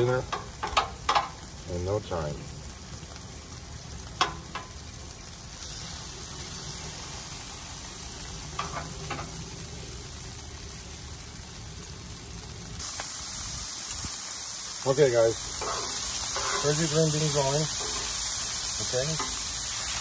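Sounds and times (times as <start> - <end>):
food sizzling on griddle: 0.0 - 20.0.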